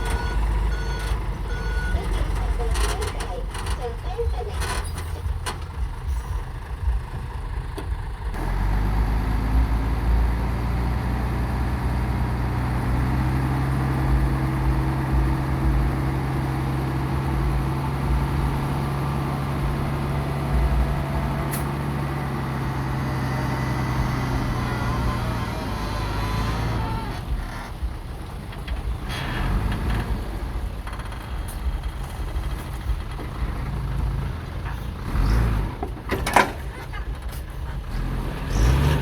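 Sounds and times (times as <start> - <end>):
diesel truck engine rumbling: 0.0 - 39.0.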